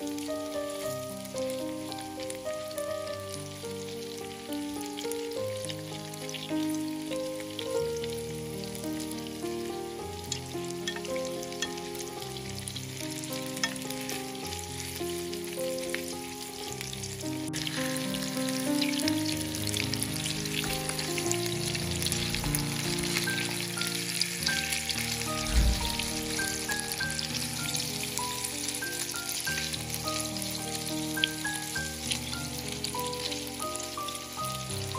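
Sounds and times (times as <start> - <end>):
background music of held notes: 0.0 - 34.9
patties sizzling in oil: 0.0 - 34.9.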